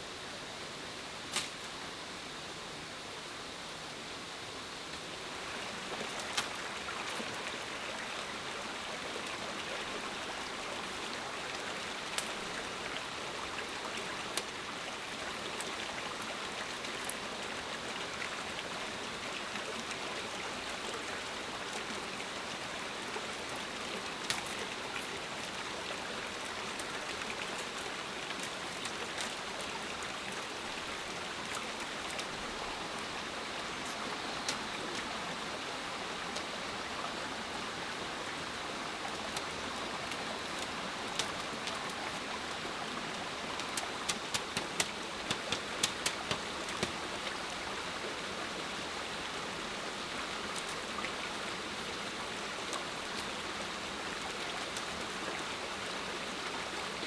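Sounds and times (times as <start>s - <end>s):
steady water noise: 0.0s - 57.0s.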